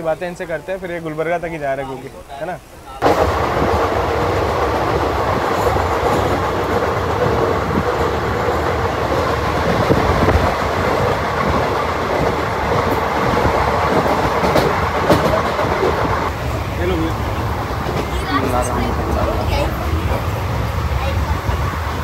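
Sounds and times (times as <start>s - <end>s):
train wheels on rails: 2.9s - 22.0s.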